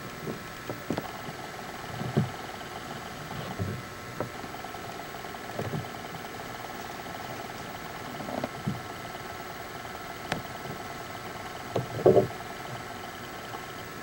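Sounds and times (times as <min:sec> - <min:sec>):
camcorder tape hiss: 0:00.0 - 0:14.0
faint constant whine: 0:00.0 - 0:14.0.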